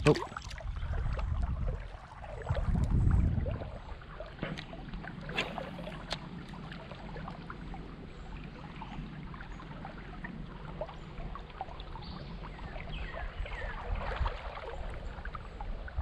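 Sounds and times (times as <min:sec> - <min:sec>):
creek water splashing and trickling: 0:00.0 - 0:16.0
low rumble: 0:00.6 - 0:13.9.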